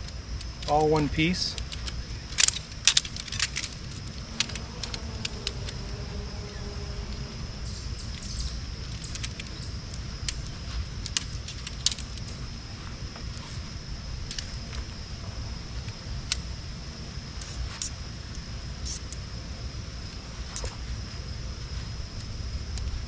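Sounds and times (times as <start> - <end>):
tent pole sections clicking: 0.0 - 15.0, 15.7 - 16.5, 17.3 - 19.3, 20.0 - 23.0.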